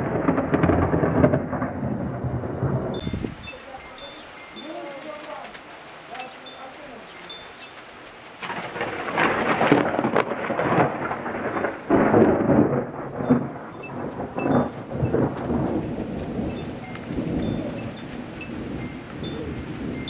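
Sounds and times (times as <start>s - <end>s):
thunder rumbling: 0.0s - 4.7s, 8.4s - 20.0s.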